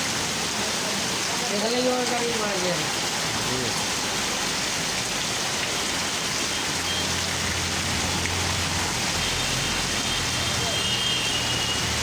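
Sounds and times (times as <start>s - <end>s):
rain pattering on surfaces: 0.0s - 12.0s.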